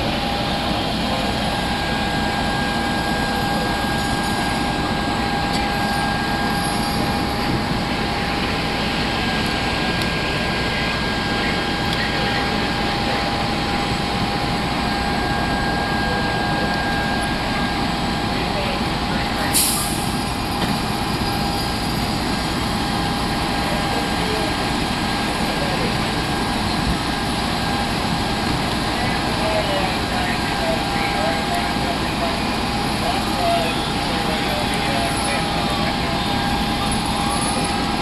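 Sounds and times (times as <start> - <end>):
diesel engines droning: 0.0 - 38.0
high whine: 0.0 - 38.0.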